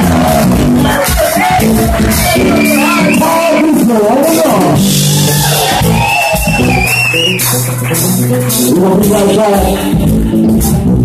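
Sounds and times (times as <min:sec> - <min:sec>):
bass line: 0:00.0 - 0:11.0
electric guitars: 0:00.0 - 0:11.0.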